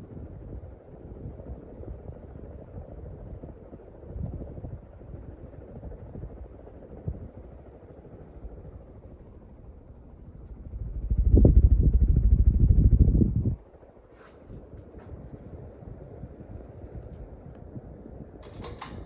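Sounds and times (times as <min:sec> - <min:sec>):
ceiling fan air whoosh: 0:00.0 - 0:19.0
wind buffeting microphone: 0:00.1 - 0:18.4.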